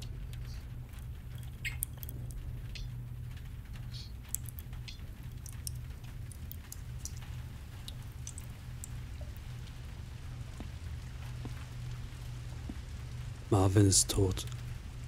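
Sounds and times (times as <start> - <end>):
light ticks and patters: 0.0 - 15.0
low steady hum: 0.0 - 15.0.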